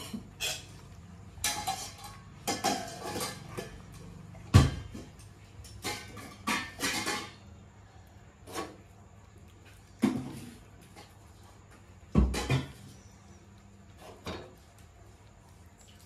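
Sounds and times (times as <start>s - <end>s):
clattering and scraping of bowls: 0.0s - 15.0s.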